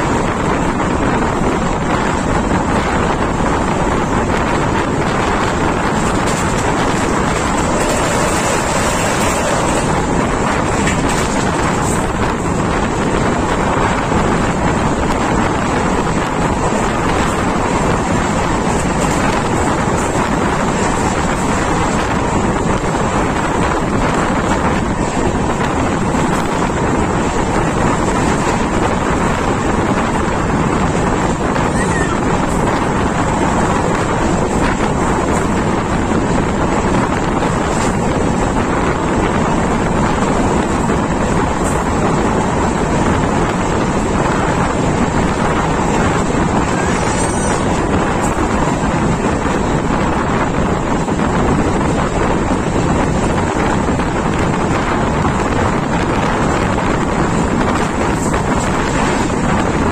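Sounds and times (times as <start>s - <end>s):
train coach rumbling: 0.0s - 59.9s
wind on microphone: 0.0s - 59.9s.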